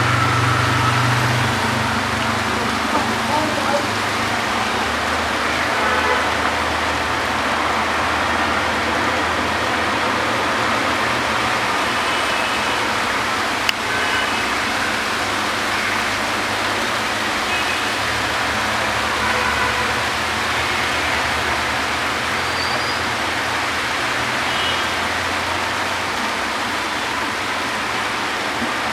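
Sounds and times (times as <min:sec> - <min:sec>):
heavy rain hissing: 0:00.0 - 0:28.9.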